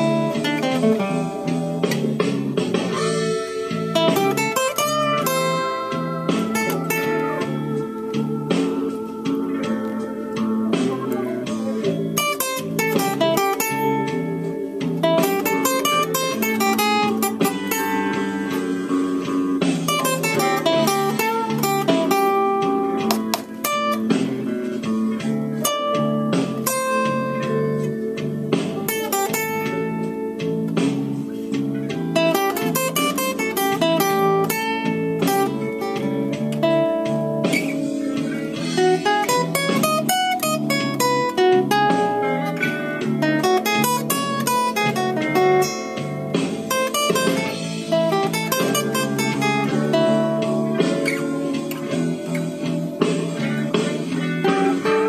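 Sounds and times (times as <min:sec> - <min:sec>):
fingerpicked acoustic blues guitar: 0:00.0 - 0:55.0.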